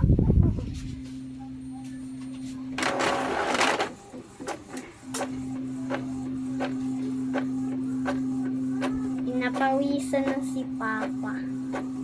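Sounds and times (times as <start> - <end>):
printer motor hum: 1.2 - 12.0.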